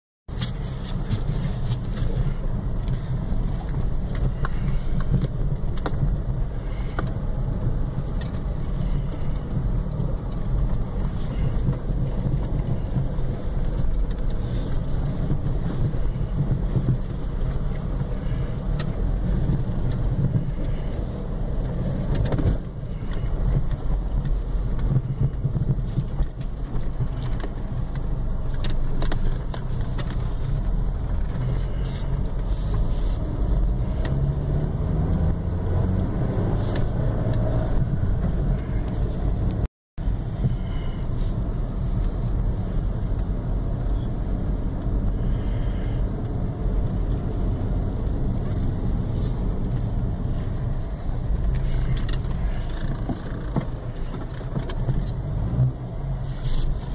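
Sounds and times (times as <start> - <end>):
car engine and tyre rumble: 0.2 - 56.9.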